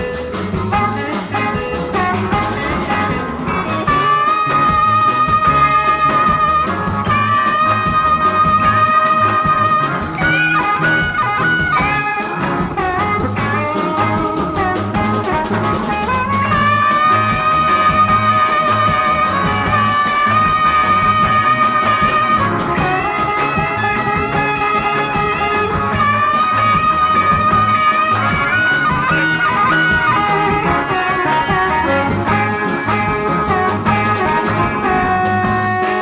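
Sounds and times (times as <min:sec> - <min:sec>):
bass guitar: 0:00.0 - 0:36.0
drum beat: 0:00.0 - 0:36.0
electric guitar lead notes bending: 0:00.0 - 0:36.0.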